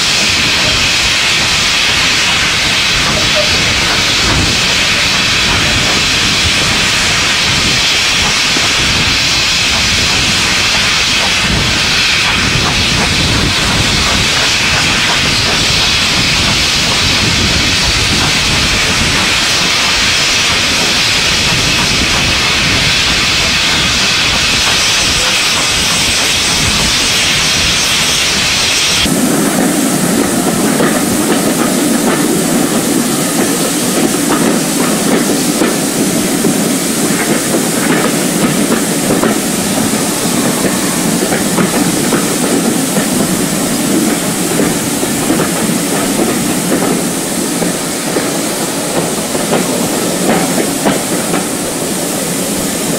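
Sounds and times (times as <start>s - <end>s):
steam locomotive hissing: 0.0s - 52.9s
train rumbling on rails: 0.0s - 52.9s.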